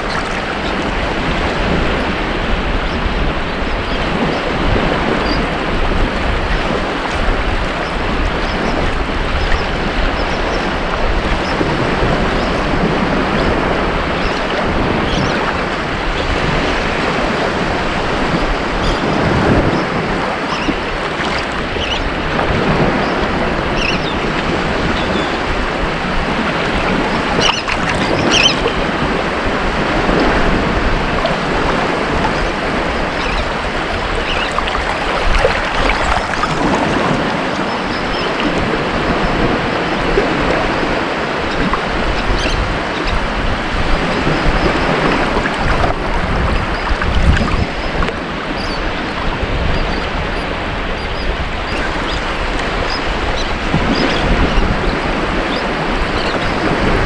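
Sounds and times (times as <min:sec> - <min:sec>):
ocean waves breaking: 0:00.0 - 0:57.0
wind on microphone: 0:00.0 - 0:57.0.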